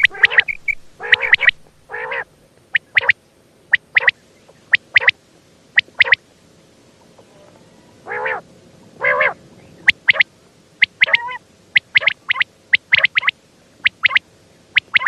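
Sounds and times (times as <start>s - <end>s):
quail calling: 0.0s - 5.2s, 5.8s - 6.2s, 7.3s - 8.4s, 9.0s - 15.0s.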